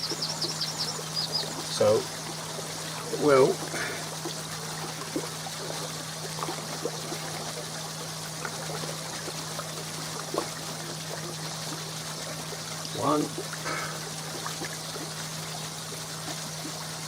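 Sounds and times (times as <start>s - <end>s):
small water plops: 0.0s - 17.0s
steady low hum: 0.0s - 17.0s
water pouring through filter box: 0.0s - 17.0s.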